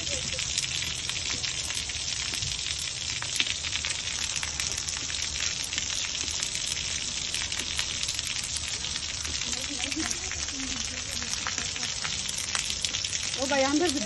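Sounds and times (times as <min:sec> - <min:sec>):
rainwater splattering on tiled floor: 0:00.0 - 0:14.0.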